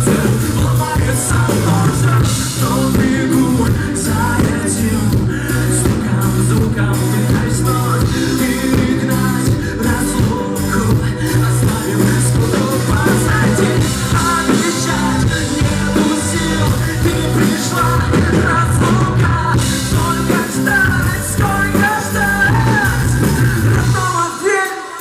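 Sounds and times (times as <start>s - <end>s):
rock band with singing: 0.0s - 25.0s.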